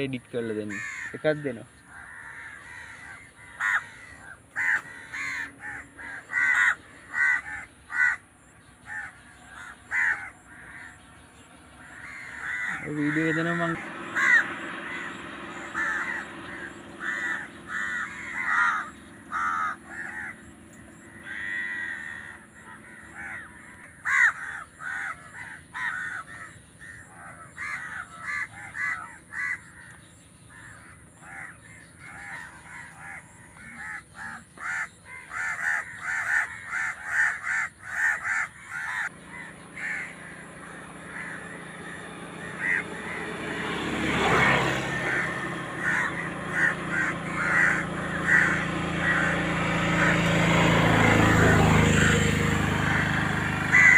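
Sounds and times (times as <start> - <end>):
crows cawing: 0.0 - 53.9
low motor hum: 0.9 - 36.7, 37.8 - 53.9.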